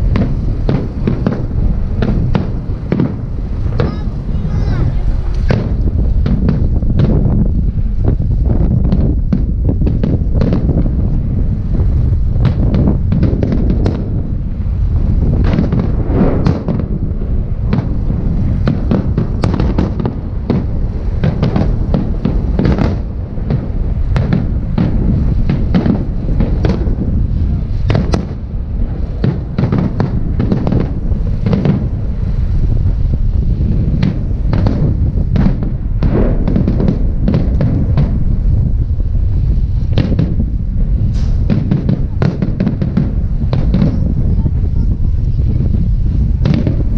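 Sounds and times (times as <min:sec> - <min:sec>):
firework shells bursting: 0:00.0 - 0:46.9
low rumble: 0:00.0 - 0:46.9.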